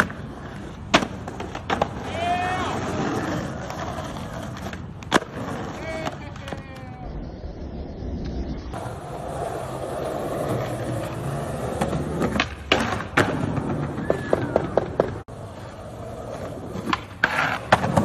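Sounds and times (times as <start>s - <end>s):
skateboard clacking on ground: 0.0s - 7.0s, 10.4s - 18.0s
skateboard wheels rolling: 0.0s - 18.0s.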